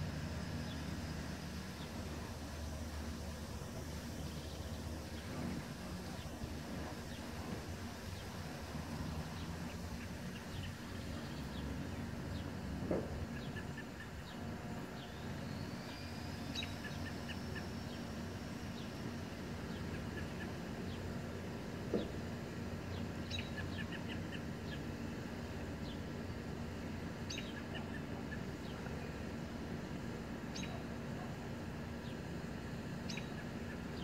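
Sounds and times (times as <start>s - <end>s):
steady low hum: 0.0s - 34.0s
small birds chirping: 0.3s - 21.4s, 22.8s - 26.2s, 26.9s - 31.3s, 32.9s - 34.0s.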